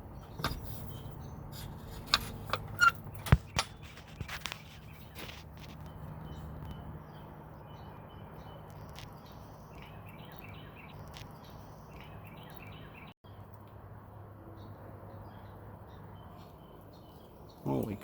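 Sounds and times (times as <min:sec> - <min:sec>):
birds chirping agitatedly: 0:00.0 - 0:18.0.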